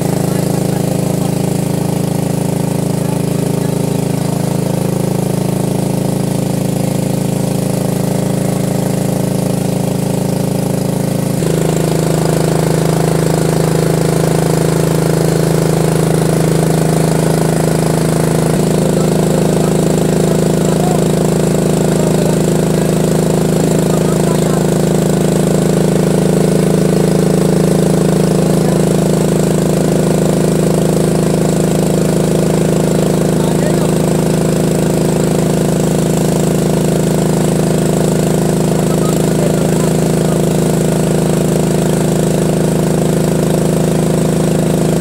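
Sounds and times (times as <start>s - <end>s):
generator engine running: 0.0s - 45.0s.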